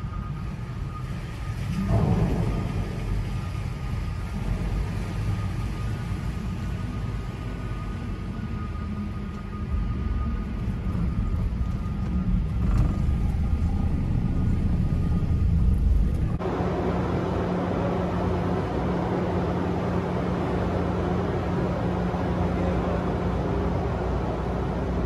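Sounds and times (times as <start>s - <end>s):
constant low hum: 0.0s - 25.0s
engine rumble: 0.0s - 25.0s.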